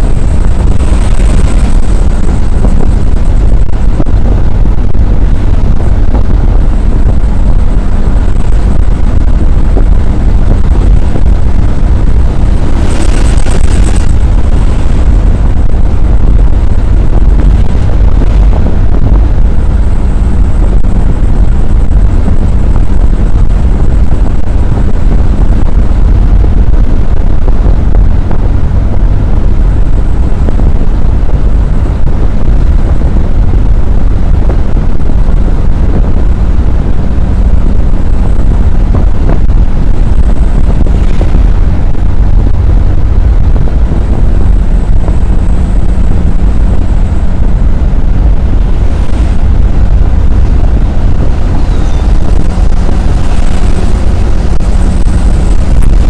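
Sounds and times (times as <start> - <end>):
minibus driving rumble: 0.0 - 56.0.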